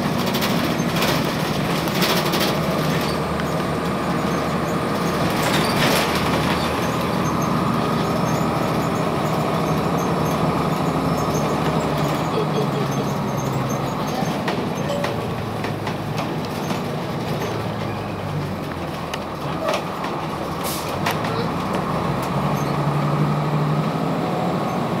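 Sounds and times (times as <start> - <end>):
interior clicks and rattles: 0.0 - 22.5
bus diesel engine droning: 0.0 - 25.0.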